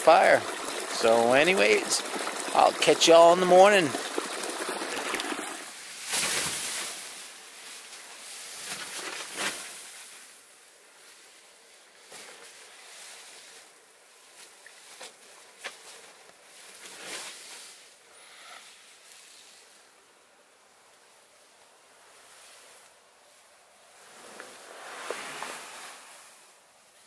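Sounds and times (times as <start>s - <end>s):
outdoor hiss: 0.0s - 27.0s.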